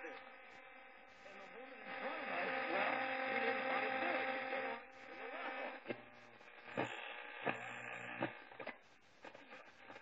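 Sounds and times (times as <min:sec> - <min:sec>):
clock radio playing: 0:00.0 - 0:10.0
steady electrical hum: 0:00.0 - 0:10.0.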